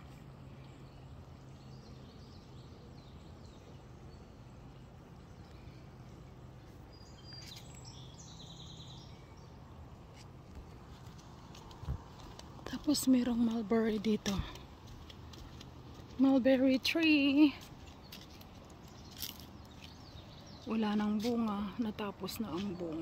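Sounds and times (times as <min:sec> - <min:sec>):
faint birds chirping: 0:00.0 - 0:23.0
low hum and hiss: 0:00.0 - 0:23.0.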